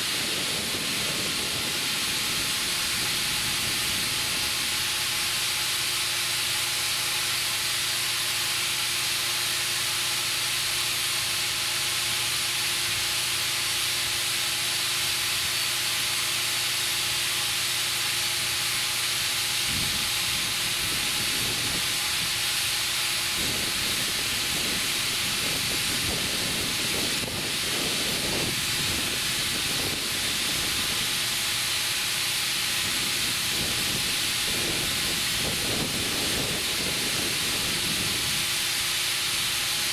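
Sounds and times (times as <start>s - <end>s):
compressed air hissing into tube: 0.0s - 39.9s.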